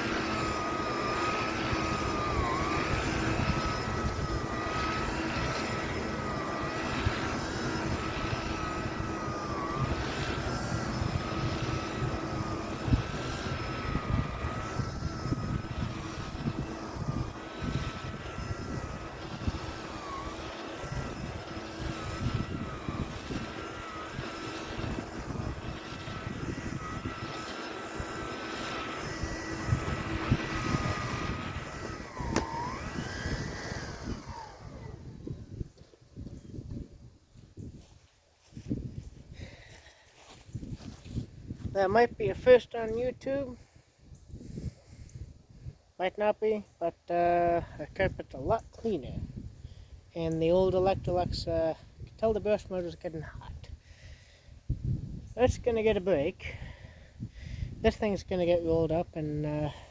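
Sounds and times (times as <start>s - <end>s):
vacuum cleaner on carpet: 0.0s - 43.6s, 50.2s - 53.8s, 54.6s - 59.9s.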